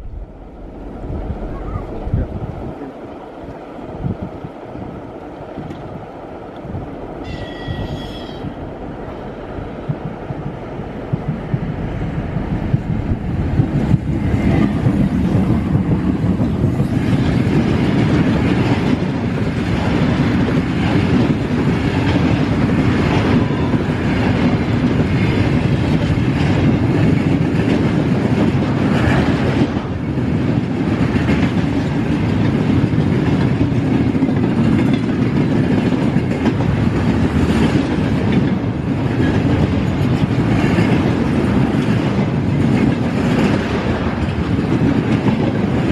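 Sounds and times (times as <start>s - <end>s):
train clattering: 0.0s - 45.9s
train wheels rumbling on track: 0.0s - 45.9s.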